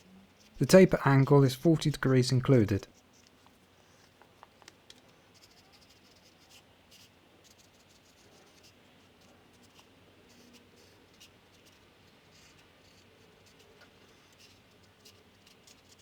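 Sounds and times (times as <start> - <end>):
faint scratches and ticks: 0.0 - 0.6, 2.9 - 16.0.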